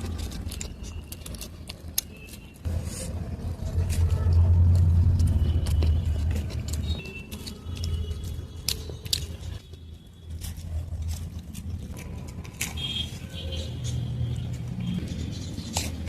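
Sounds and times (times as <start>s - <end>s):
low traffic-like rumble: 0.0s - 16.0s.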